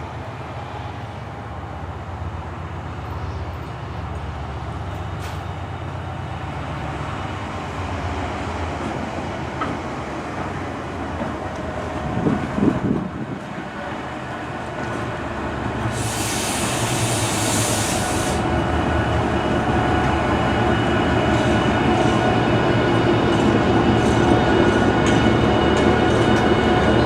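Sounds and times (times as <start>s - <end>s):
diesel locomotives approaching: 0.0s - 27.0s
high-pitched train noise: 0.0s - 27.0s.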